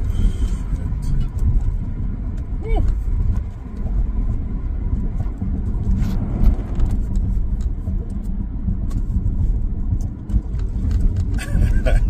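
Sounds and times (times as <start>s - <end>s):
car engine droning: 0.0s - 12.0s
road rumble: 0.0s - 12.0s.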